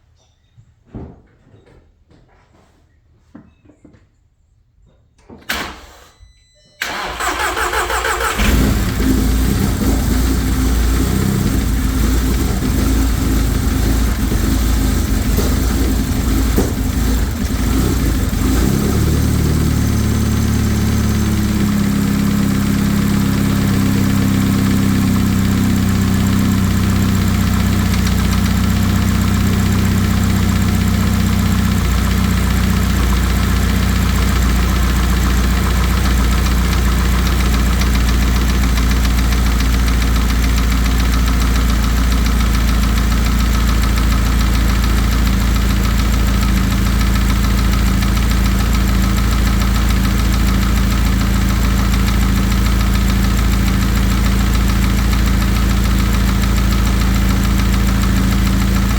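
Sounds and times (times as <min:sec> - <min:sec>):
car engine starting and idling: 0:06.8 - 0:58.9.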